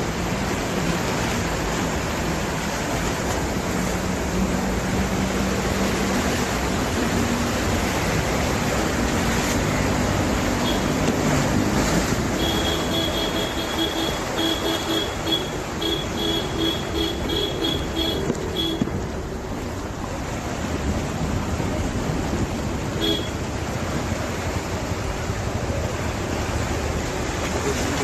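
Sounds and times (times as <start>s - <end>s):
rushing floodwater: 0.0s - 28.0s.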